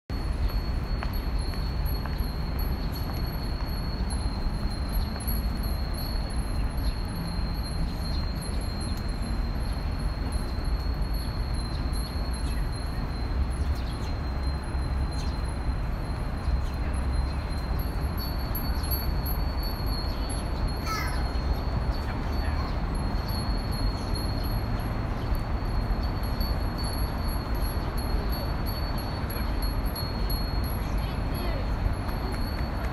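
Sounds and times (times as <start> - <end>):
wind bells ringing: 0.1 - 32.9.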